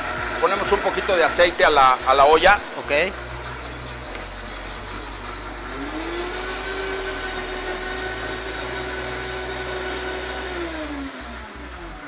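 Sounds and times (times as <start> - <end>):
blender motor running: 0.0 - 3.8, 5.1 - 12.0.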